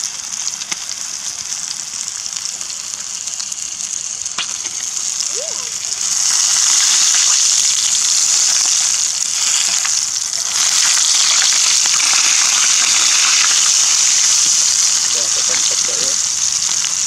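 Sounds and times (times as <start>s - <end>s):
oil sizzling with pops: 0.0s - 17.0s.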